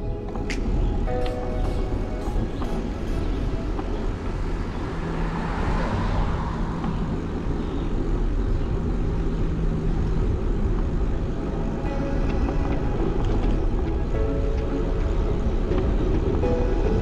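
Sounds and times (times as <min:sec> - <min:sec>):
wind and road noise rumble: 0:00.0 - 0:17.0.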